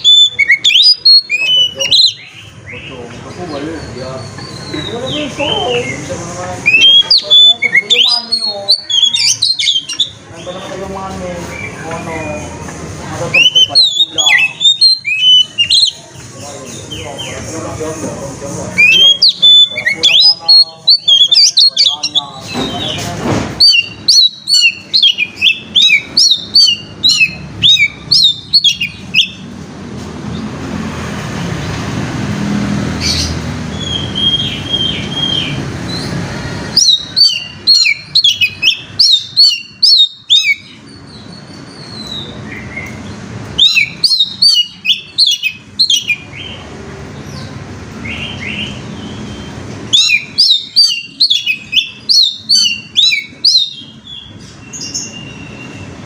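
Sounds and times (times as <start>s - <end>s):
bird sharp high chirps: 0.0s - 6.0s, 6.6s - 10.7s, 13.3s - 17.5s, 18.8s - 29.5s, 33.0s - 56.0s
whistled bird notes: 0.0s - 6.0s, 6.6s - 10.7s, 13.3s - 17.5s, 18.8s - 29.5s, 33.0s - 46.6s, 47.3s - 56.0s.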